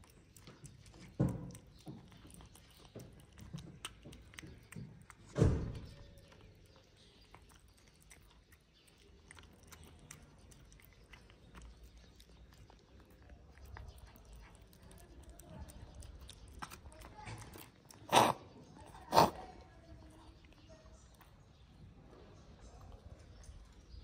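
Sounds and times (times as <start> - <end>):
cat chewing and lapping food: 0.0 - 24.0.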